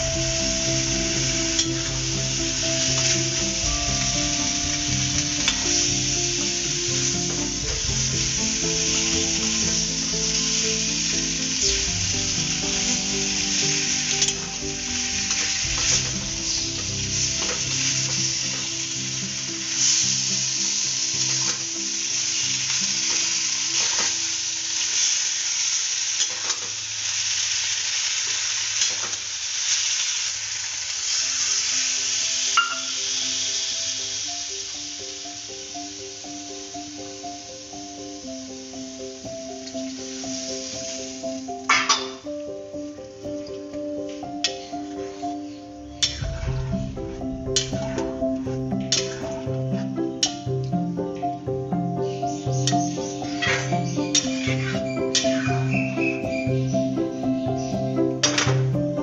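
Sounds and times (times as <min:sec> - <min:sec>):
food sizzling in a wok: 0:00.0 - 0:59.0.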